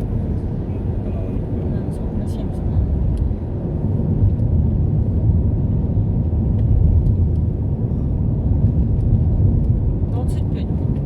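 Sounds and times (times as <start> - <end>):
car interior road and engine rumble: 0.0 - 11.0.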